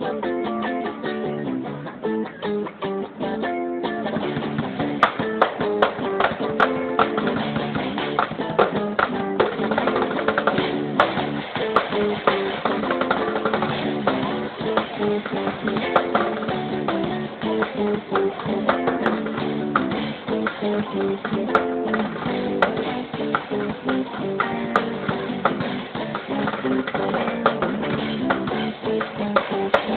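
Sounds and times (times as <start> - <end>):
strummed and picked guitar: 0.0 - 29.9
steady drum beat: 4.0 - 29.9.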